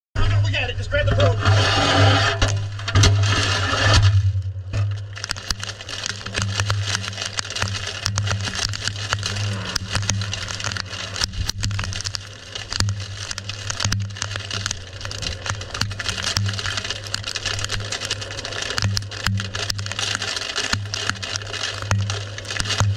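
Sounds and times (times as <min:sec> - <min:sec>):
wind rushing with crackles: 0:00.2 - 0:22.9.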